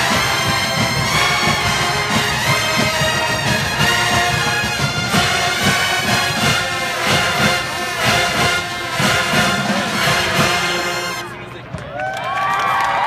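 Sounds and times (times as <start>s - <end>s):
steady drum beat: 0.0s - 11.3s
brass horns: 0.0s - 11.6s
marching band playing: 0.0s - 11.7s.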